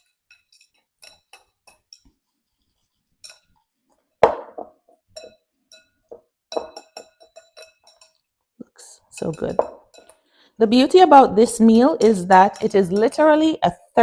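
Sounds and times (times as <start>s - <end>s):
metal utensil clinking glass bowl: 0.0s - 2.2s, 3.2s - 8.3s, 9.0s - 13.6s.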